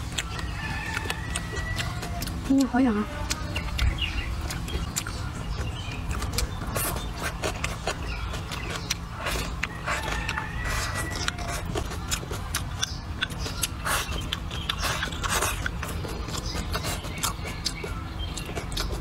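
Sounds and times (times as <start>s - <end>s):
person chewing food: 0.0s - 19.0s
steady low rumble: 0.0s - 19.0s.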